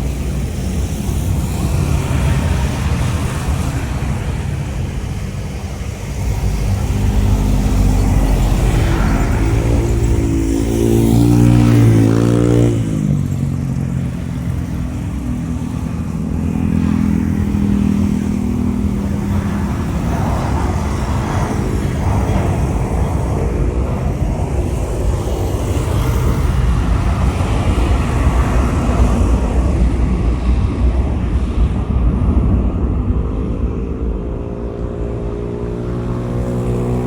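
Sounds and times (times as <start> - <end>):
traffic rumble: 0.0 - 37.0
vehicle engine passing: 0.0 - 37.0.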